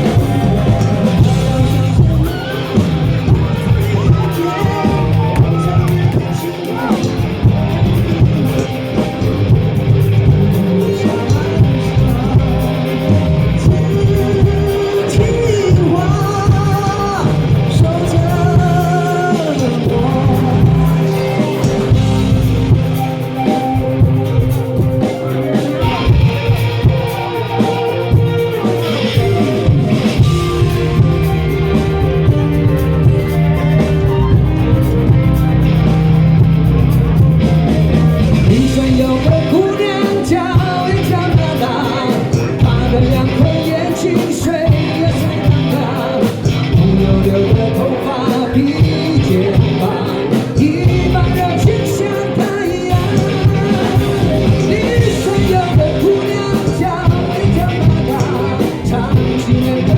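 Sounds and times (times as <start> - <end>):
drums: 0.0 - 59.9
electric guitar: 0.0 - 59.9
person singing: 0.0 - 59.9.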